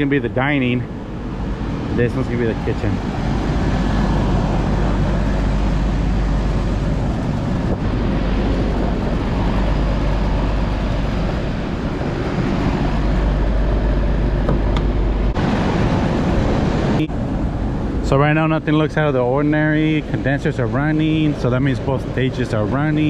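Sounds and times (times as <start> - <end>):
air conditioning unit running: 0.0 - 23.0.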